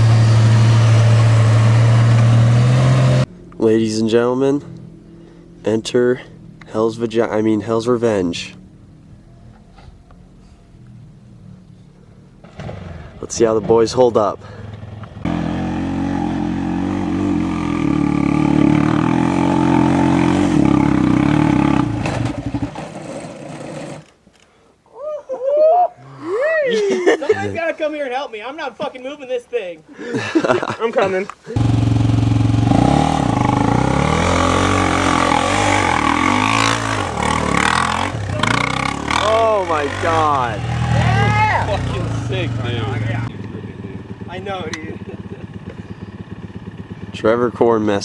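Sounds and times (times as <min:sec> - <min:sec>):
off-road vehicle engine running hard: 0:00.0 - 0:06.8, 0:08.4 - 0:24.0, 0:31.6 - 0:48.0.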